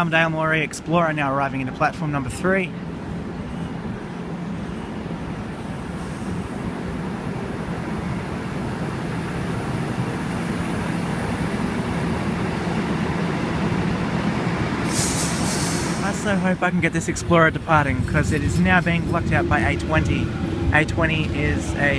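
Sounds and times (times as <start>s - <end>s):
train rumbling into station: 0.0s - 21.9s.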